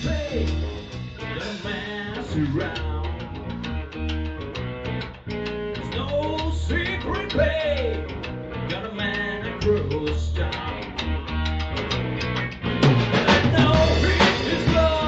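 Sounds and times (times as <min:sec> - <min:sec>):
bass and drum groove: 0:00.0 - 0:15.0
lead guitar with pitch bends: 0:00.0 - 0:15.0.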